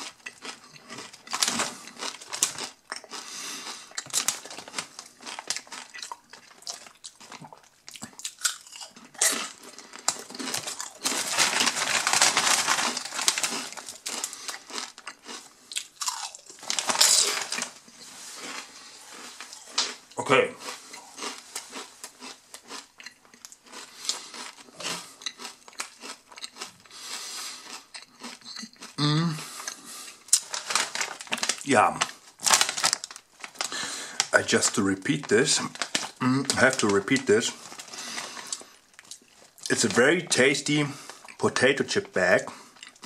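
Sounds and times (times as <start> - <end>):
chip bag crinkling: 0.0 - 20.0, 20.6 - 28.9, 29.6 - 43.0
potato chips crunching: 0.0 - 43.0.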